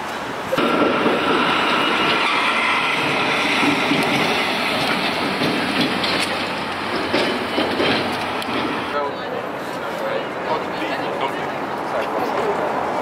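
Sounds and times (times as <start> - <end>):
passing traffic hum: 0.0 - 13.0.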